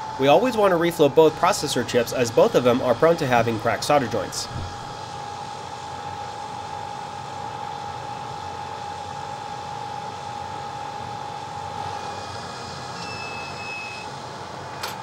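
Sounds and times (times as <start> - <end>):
hot air blower with whine: 0.0 - 15.0.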